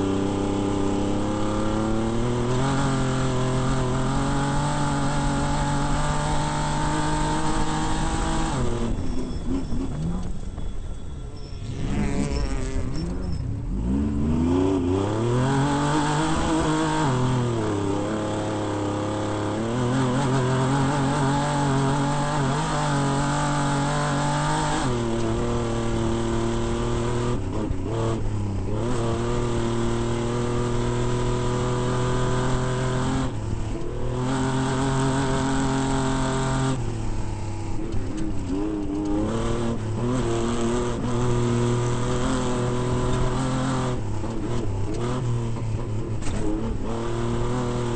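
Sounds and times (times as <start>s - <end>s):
race vehicle engine revving: 0.0s - 10.6s, 11.6s - 47.9s.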